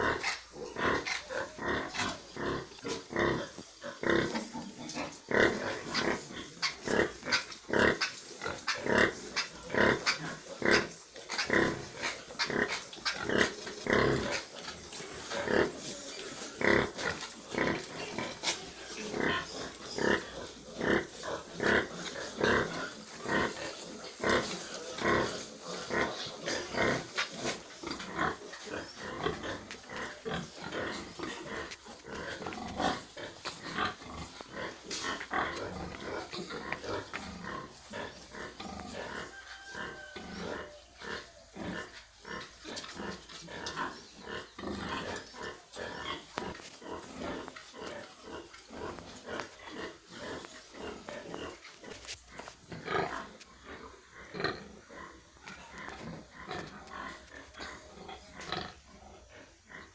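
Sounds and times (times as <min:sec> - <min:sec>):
pigs grunting: 0:00.0 - 0:59.9.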